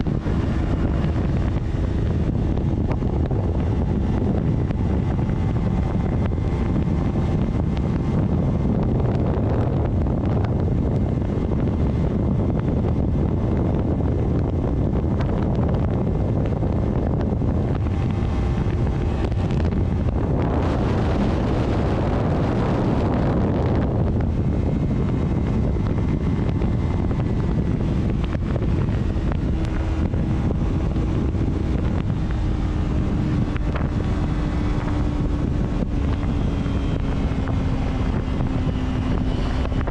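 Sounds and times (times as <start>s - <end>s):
faint engine tone: 0.0s - 39.9s
road and wind noise: 0.0s - 39.9s.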